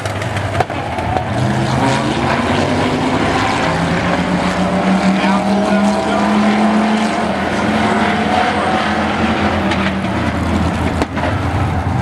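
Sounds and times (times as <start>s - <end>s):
truck engines racing: 0.0s - 12.0s.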